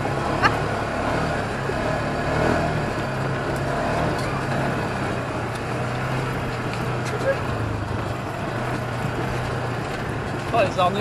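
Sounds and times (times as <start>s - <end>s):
buggy engine running: 0.0s - 11.0s
rush and rattle over dirt track: 0.0s - 11.0s.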